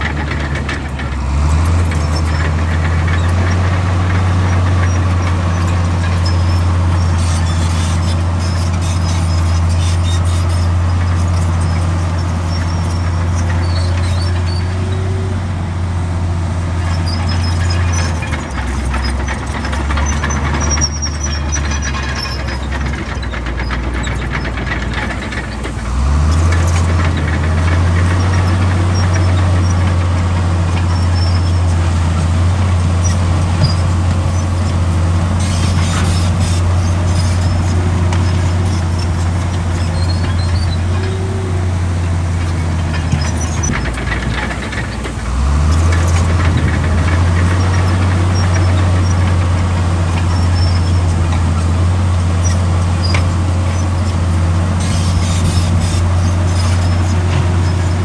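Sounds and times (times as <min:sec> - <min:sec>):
high squeaks from tracks: 0:00.0 - 0:15.4, 0:16.7 - 0:58.0
bulldozer diesel engine working: 0:00.0 - 0:58.0.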